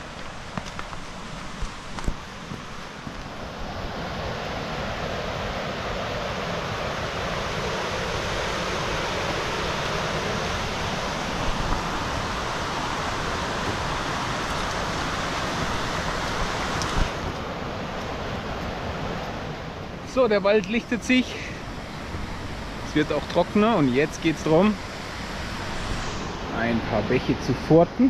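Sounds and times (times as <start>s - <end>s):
stream rushing: 0.0s - 28.0s.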